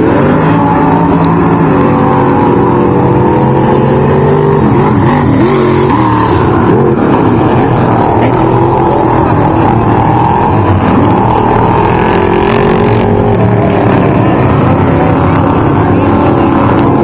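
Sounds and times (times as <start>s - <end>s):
race engines revving: 0.0s - 17.0s.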